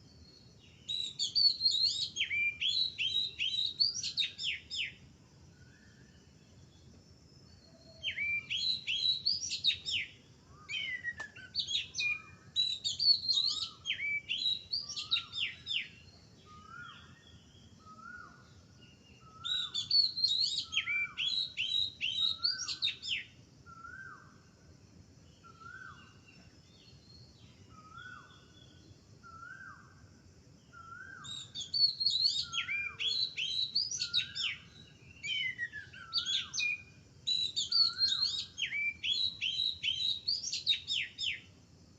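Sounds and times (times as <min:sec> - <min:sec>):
small birds chirping: 0:00.0 - 0:24.4, 0:25.1 - 0:29.9, 0:30.6 - 0:41.9.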